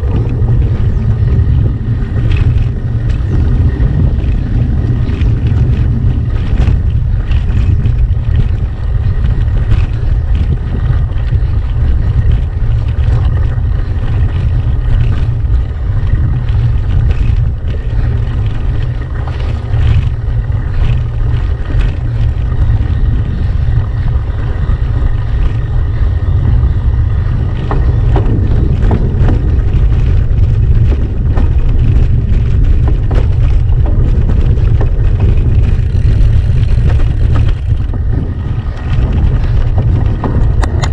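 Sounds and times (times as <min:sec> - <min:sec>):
bike rattling on stones: 0:00.0 - 0:40.9
low rumble: 0:00.0 - 0:40.9
wind buffeting microphone: 0:00.0 - 0:40.9.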